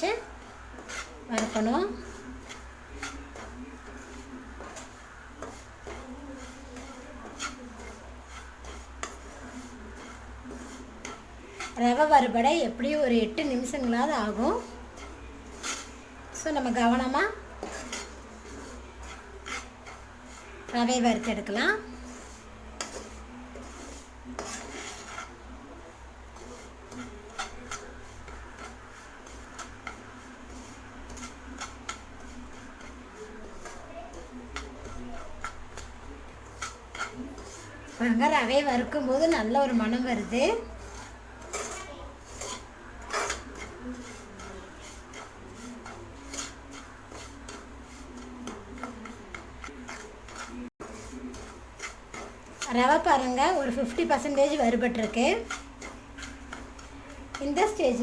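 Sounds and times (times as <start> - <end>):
spoon scraping a pan: 0.0 - 58.0.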